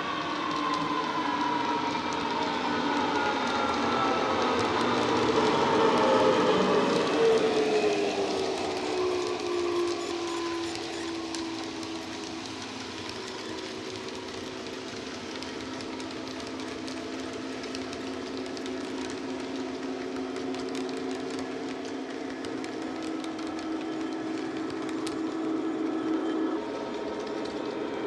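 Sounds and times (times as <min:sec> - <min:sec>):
model train wheels clicking: 0:03.4 - 0:28.0.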